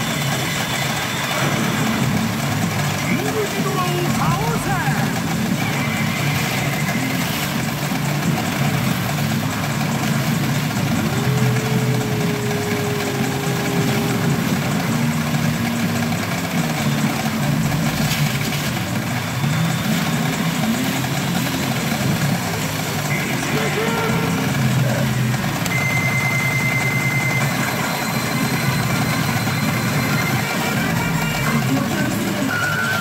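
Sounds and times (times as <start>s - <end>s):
din of pachinko machines: 0.0s - 33.0s.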